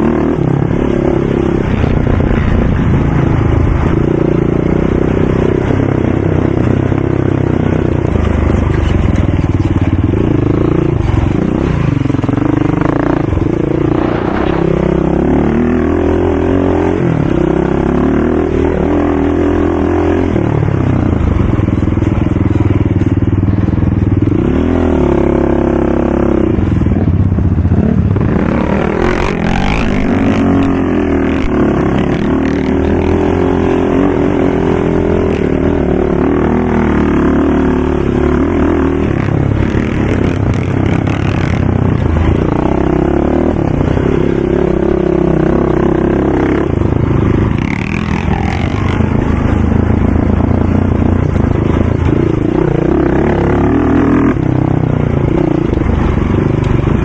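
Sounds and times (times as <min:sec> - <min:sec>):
racing atv engines revving: 0:00.0 - 0:57.0.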